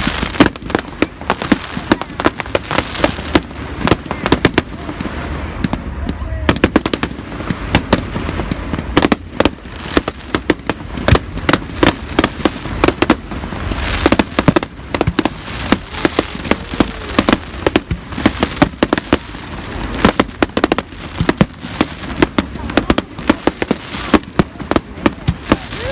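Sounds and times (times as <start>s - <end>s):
fireworks banging: 0.0s - 25.9s
fireworks crackling: 0.0s - 25.9s.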